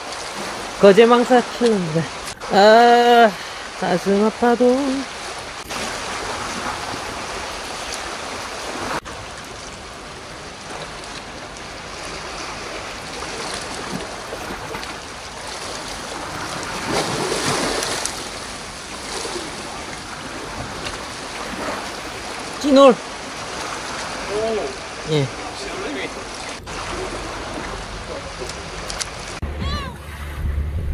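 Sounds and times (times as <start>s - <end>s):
waves washing against rocks: 0.0s - 29.5s.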